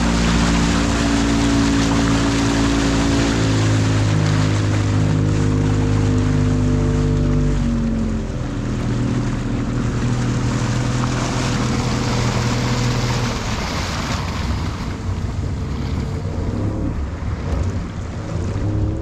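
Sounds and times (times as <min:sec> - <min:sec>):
low drone: 0:00.0 - 0:19.0
water rushing past hull: 0:00.0 - 0:19.0.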